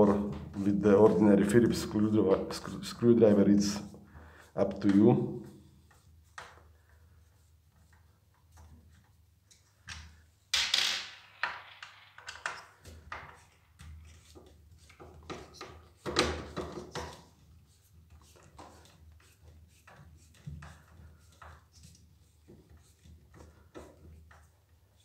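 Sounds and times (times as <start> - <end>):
rubbing noises: 0.0 - 9.3, 12.5 - 25.0.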